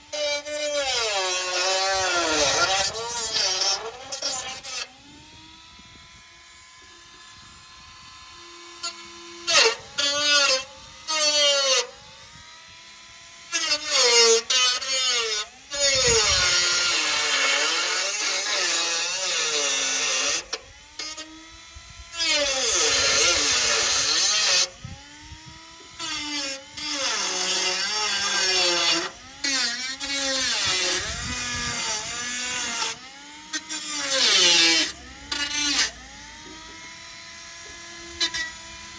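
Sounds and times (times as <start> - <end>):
rotary tool cutting sheet steel: 0.0 - 38.9.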